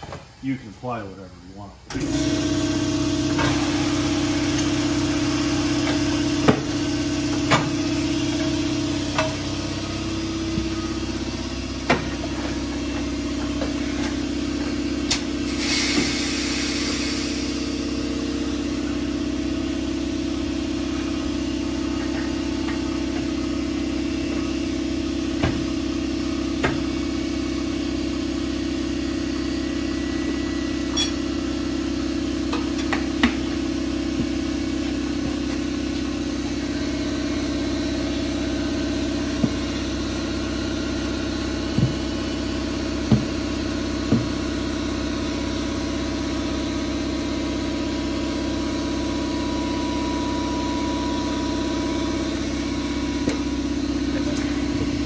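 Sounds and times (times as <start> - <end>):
air compressor drone: 0.0 - 55.0.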